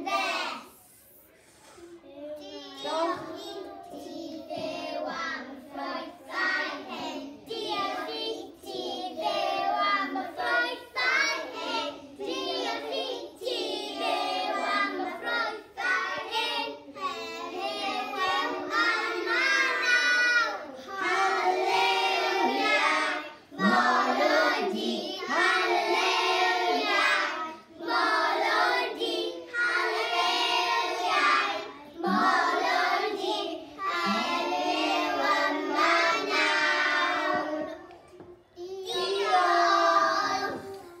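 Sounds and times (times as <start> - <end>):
children singing unaccompanied: 0.0 - 41.0.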